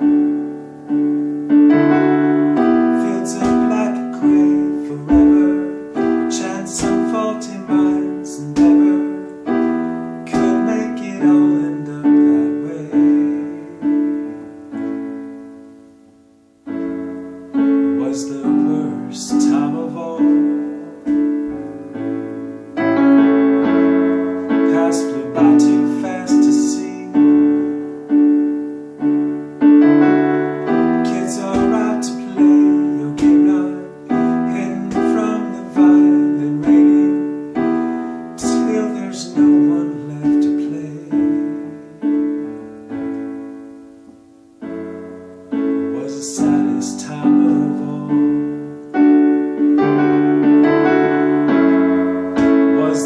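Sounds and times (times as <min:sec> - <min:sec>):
piano chords: 0:00.0 - 0:53.0.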